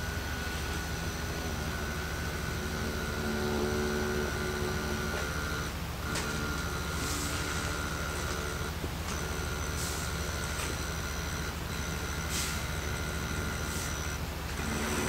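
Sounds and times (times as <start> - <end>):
model train motor electronic tones: 0.0 - 15.0.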